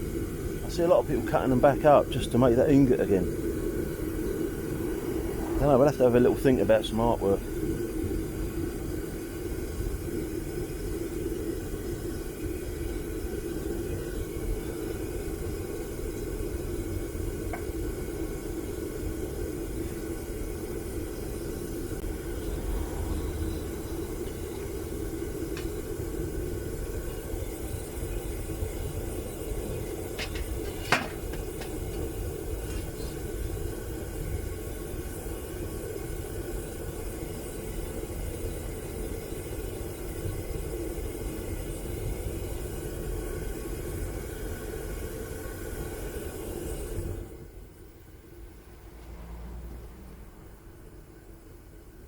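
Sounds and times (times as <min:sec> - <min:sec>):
furnace burner roaring: 0:00.0 - 0:52.0.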